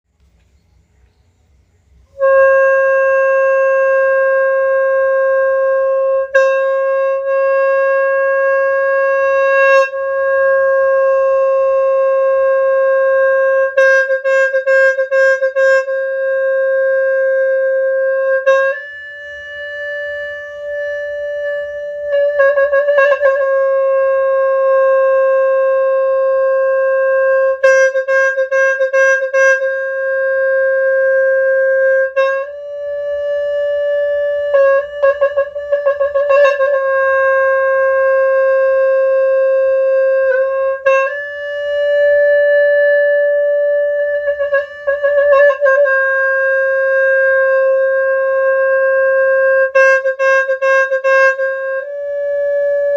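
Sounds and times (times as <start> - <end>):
reed horn long note with trills: 2.1 - 52.9.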